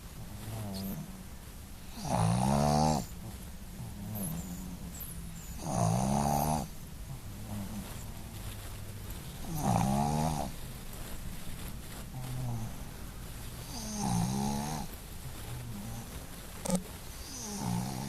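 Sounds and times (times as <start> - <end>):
dog snoring: 0.2 - 1.2, 1.8 - 18.0
dog breathing: 1.8 - 18.0.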